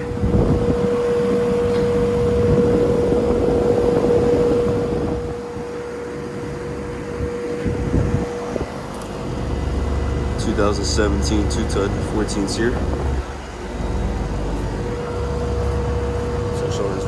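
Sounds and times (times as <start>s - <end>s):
compressor humming: 0.0s - 17.0s
condenser fan air rushing: 0.0s - 17.0s.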